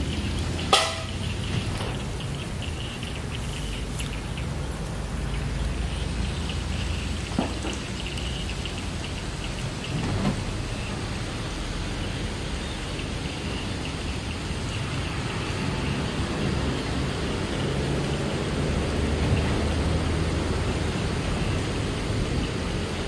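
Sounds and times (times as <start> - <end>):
distant diesel locomotive drone: 0.0 - 23.0
steady rain falling: 0.0 - 23.0.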